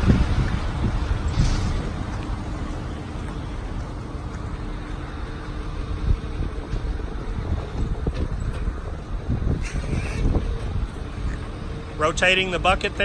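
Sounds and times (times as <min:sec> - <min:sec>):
diesel engine running: 0:00.0 - 0:13.0
wind rumbling on microphone: 0:00.0 - 0:13.0.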